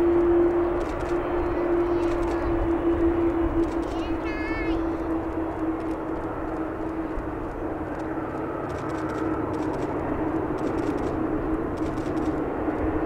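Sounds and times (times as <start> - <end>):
humming tone: 0.0 - 12.9
jet engines at takeoff thrust: 0.0 - 13.0.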